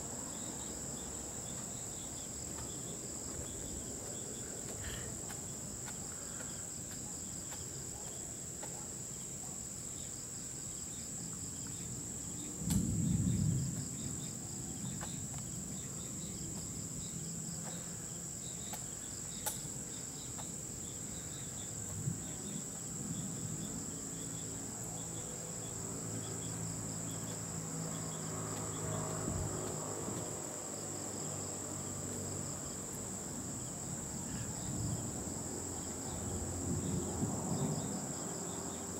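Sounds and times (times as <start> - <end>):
night insects chirring: 0.0 - 38.9.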